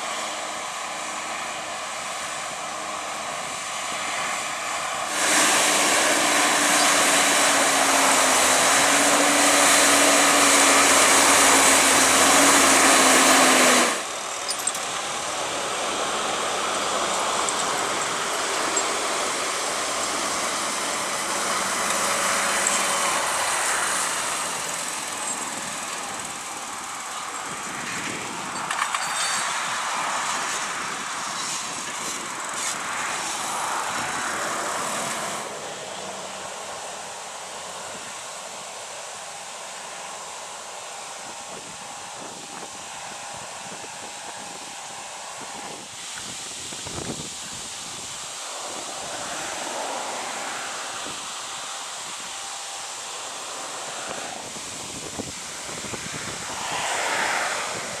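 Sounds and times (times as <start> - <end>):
tractor engines under heavy load: 0.0 - 58.0.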